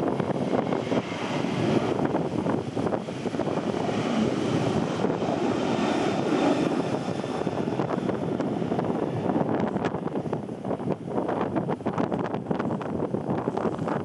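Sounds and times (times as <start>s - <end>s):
distant jet engines running: 0.0s - 14.0s
wind buffeting microphone: 0.0s - 14.0s.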